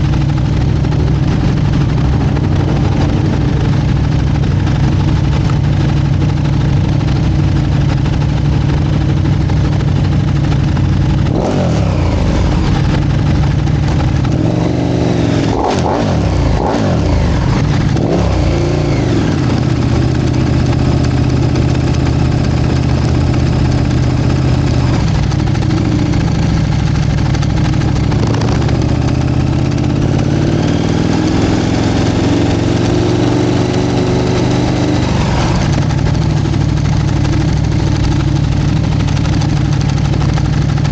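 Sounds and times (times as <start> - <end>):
motorcycle engines idling and revving: 0.0 - 40.9.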